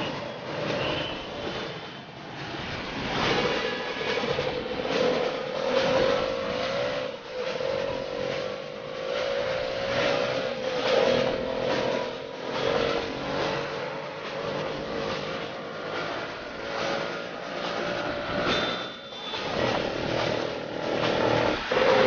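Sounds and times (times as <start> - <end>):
motor rickshaw engine running: 0.0 - 22.0
street traffic noise: 0.0 - 22.0.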